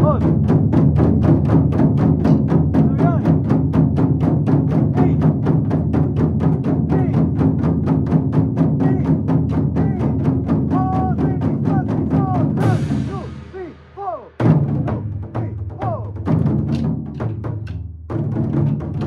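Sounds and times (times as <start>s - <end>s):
taiko drums beating: 0.0s - 19.0s.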